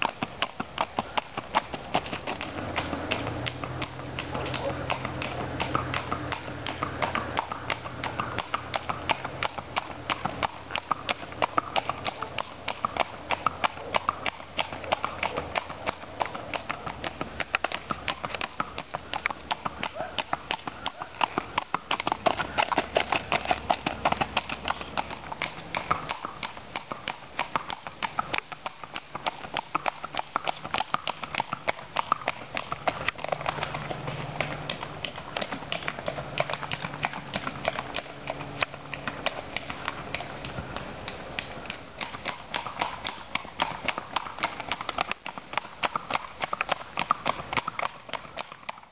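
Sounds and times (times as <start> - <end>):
hooves clip-clopping on pavement: 0.0 - 48.9.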